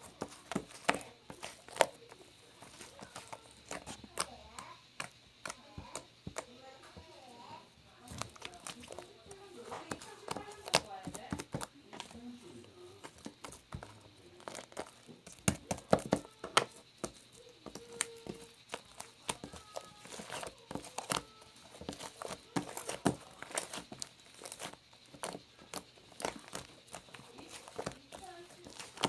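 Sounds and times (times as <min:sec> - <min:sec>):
crinkling and crackling: 0:00.0 - 0:29.0.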